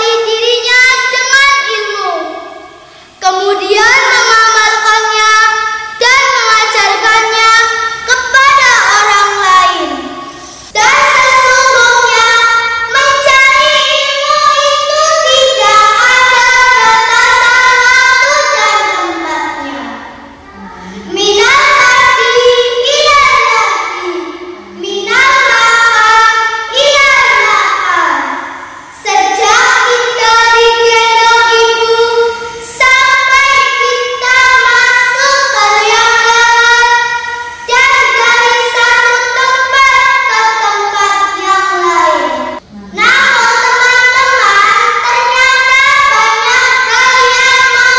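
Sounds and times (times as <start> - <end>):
girl singing: 0.0 - 28.4, 29.0 - 47.9.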